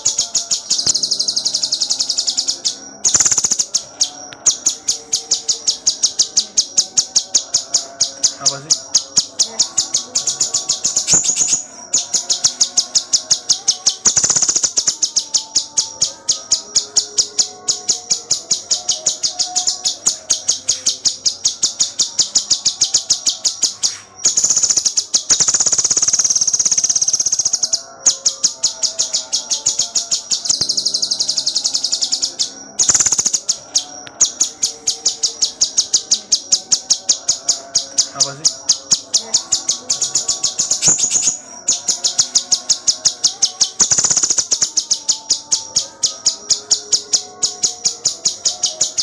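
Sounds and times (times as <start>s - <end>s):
songbird chirping and trilling: 0.0s - 49.0s.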